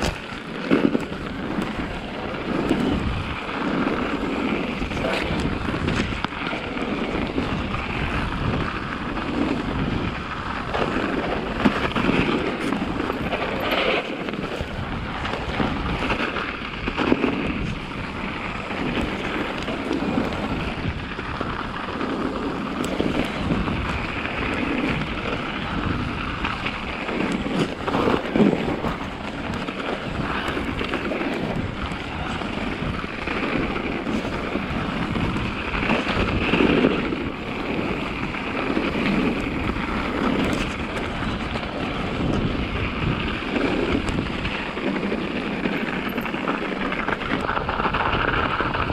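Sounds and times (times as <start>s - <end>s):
bike rattling over bumps: 0.0s - 48.9s
bike tyres rolling through snow: 0.0s - 48.9s
wind on microphone: 0.0s - 48.9s.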